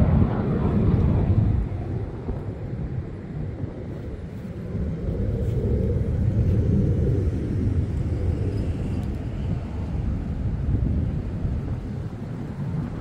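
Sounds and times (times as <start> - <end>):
distant jet aircraft rumble: 0.0 - 13.0.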